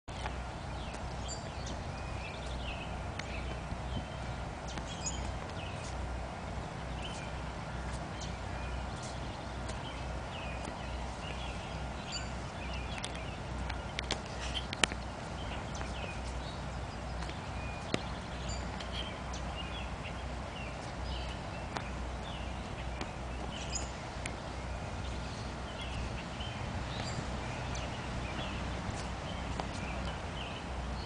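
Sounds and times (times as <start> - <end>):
birds chirping: 0.1 - 31.0
steady low rumble: 0.1 - 31.0.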